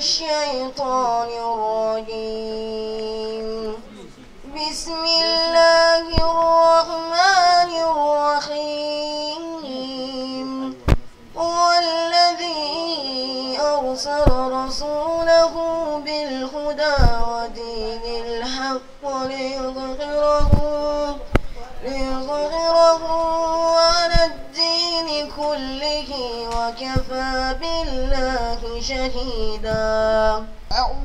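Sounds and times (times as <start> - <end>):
boy chanting melodically: 0.0 - 31.0.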